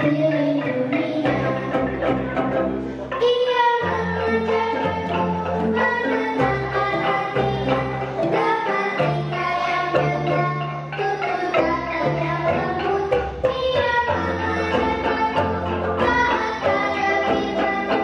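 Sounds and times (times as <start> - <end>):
tuned wooden bars playing melody: 0.0 - 18.0.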